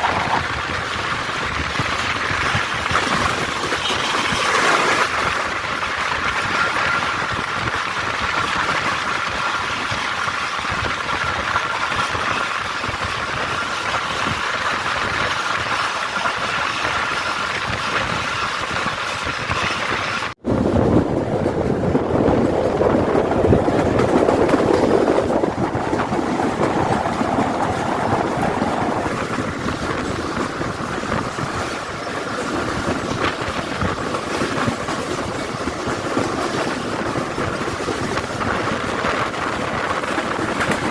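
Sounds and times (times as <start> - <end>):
train running on rails: 0.0 - 40.9.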